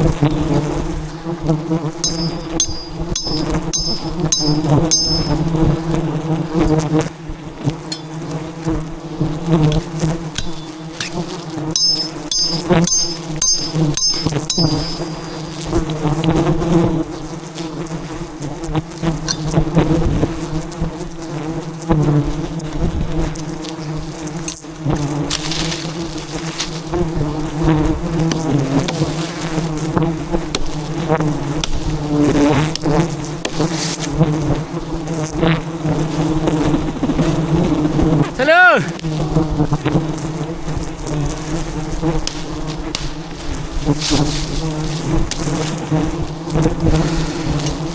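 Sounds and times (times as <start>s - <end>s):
bee swarm buzzing loudly: 0.0s - 47.9s.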